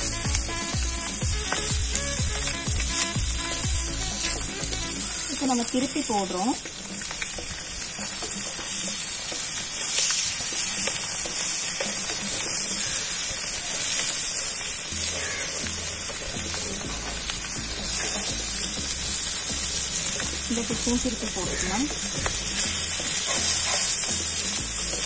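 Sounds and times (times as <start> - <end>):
fish frying in hot oil: 0.0 - 25.0.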